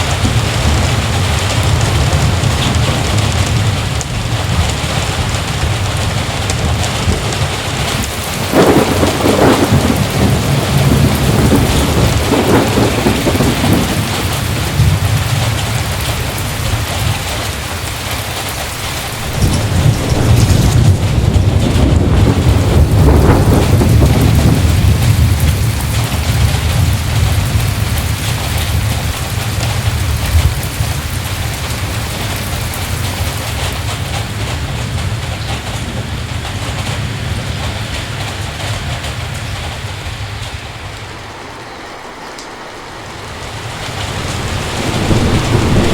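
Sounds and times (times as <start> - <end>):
heavy rain falling: 0.0 - 45.9
thunder rolling: 0.0 - 45.9.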